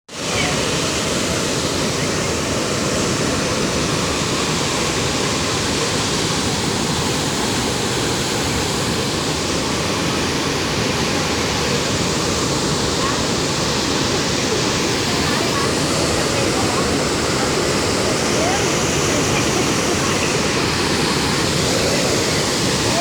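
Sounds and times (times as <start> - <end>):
waterfall rushing: 0.1 - 23.0.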